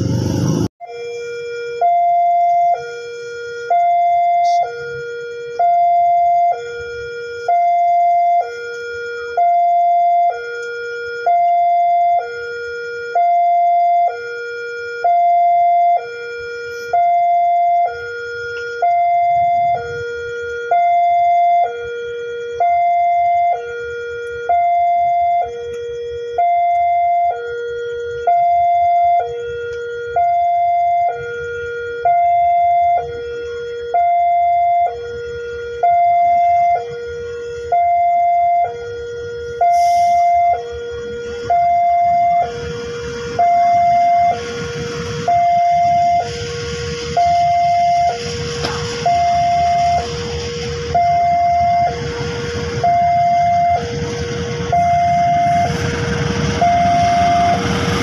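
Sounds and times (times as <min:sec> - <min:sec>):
level crossing two-tone alarm: 0:00.8 - 0:58.0.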